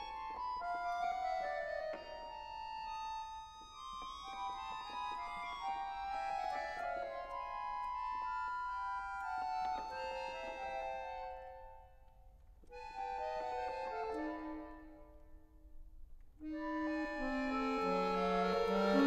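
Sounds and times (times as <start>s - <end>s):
solo piano accordion playing: 0.0s - 11.6s, 12.7s - 15.2s, 16.4s - 19.0s.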